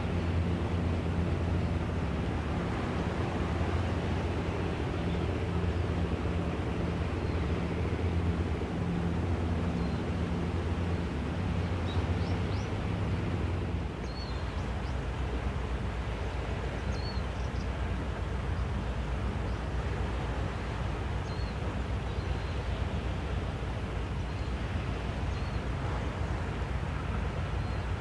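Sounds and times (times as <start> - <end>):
distant motorboat engine droning: 0.0 - 28.0
wind and sea hiss: 0.0 - 28.0.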